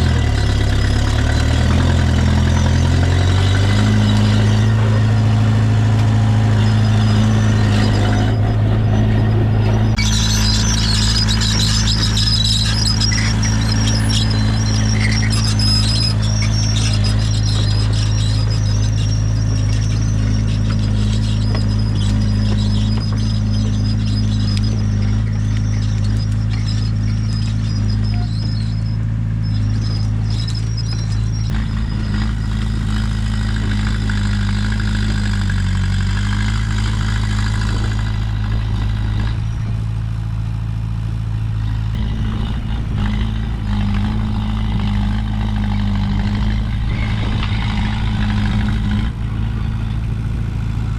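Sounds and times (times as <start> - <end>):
high-pitched squeal: 0.0 - 40.0, 41.5 - 50.9
bulldozer diesel engine running: 0.0 - 50.9.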